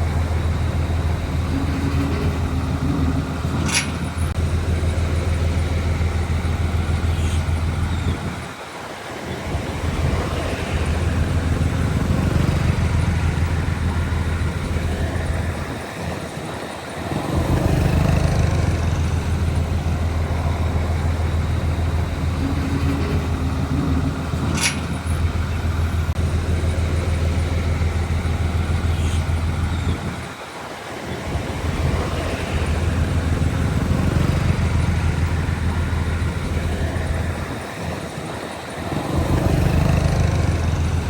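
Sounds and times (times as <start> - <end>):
heavy machinery diesel engine running: 0.0 - 41.0.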